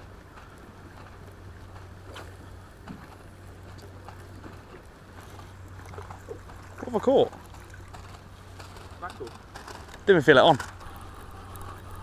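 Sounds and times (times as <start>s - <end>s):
low hum: 0.0s - 12.0s
wind and water hiss: 0.0s - 12.0s.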